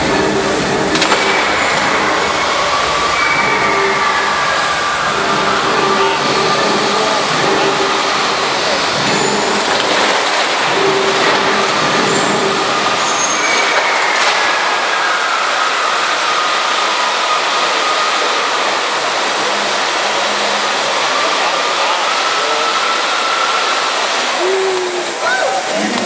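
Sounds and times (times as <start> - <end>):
fountain water jets spraying: 0.0 - 26.0.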